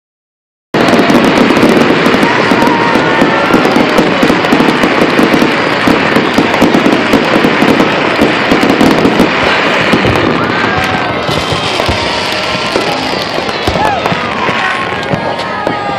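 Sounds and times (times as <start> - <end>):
fireworks popping and crackling: 0.8 - 15.9.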